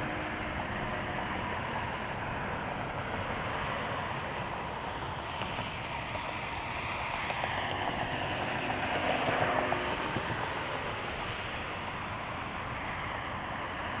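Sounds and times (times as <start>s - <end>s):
faint steady tones: 0.0s - 14.0s
jet airliner engines: 0.0s - 14.0s.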